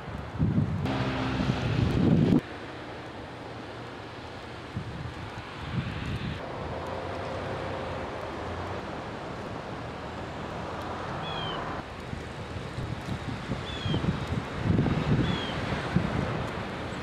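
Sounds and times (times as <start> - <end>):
wind buffeting microphone: 0.0 - 2.4, 4.6 - 9.8, 10.5 - 17.0
car engine and tyre noise: 0.0 - 17.0.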